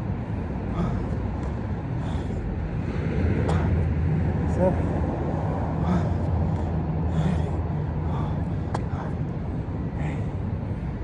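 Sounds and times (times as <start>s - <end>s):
man breathing hard: 0.0s - 11.0s
steady low rumble: 0.0s - 11.0s.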